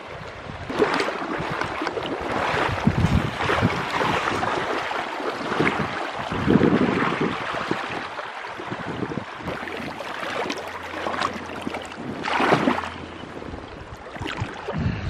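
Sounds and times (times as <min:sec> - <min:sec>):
water splashing: 0:00.6 - 0:15.0
river water rushing: 0:00.7 - 0:14.8.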